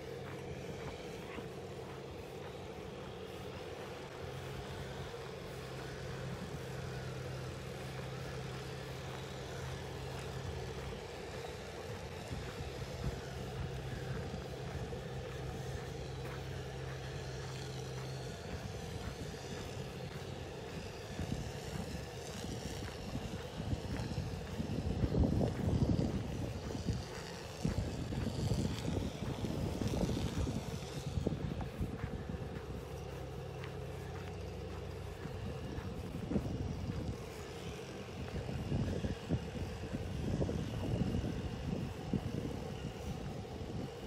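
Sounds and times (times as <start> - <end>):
distant engine hum: 0.0 - 44.0.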